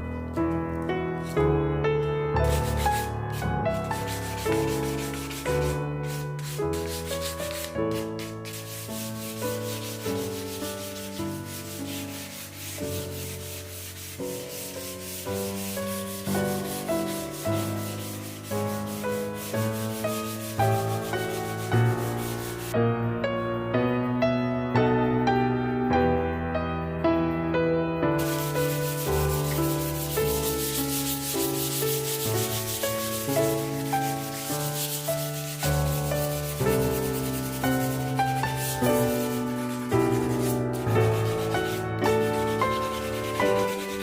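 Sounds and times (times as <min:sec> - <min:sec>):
soft piano music: 0:00.0 - 0:44.0
sandpaper rubbing on wood: 0:02.4 - 0:22.8, 0:28.2 - 0:44.0.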